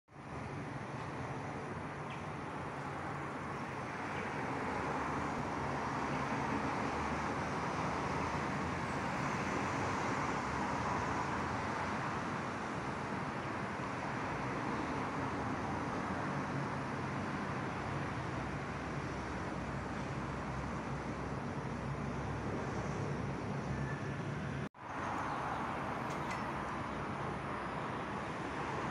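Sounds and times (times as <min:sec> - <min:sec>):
distant road traffic hum: 0:00.1 - 0:28.9.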